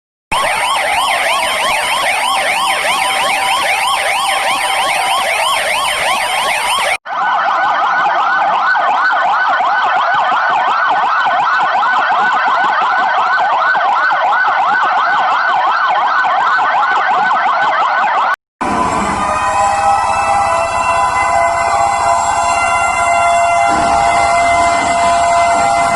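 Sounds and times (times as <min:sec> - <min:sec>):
police sirens yelping: 0:00.3 - 0:25.9.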